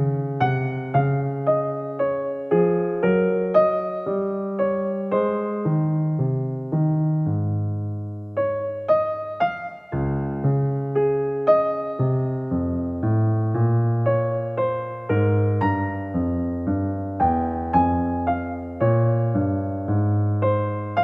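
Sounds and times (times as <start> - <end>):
electric piano music: 0.0 - 21.0.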